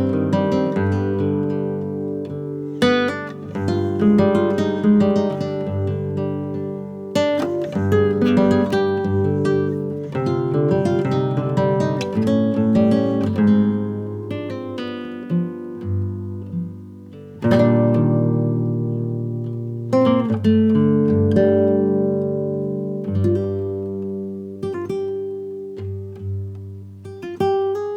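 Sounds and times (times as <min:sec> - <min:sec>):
acoustic guitar strumming chords: 0:00.0 - 0:27.9.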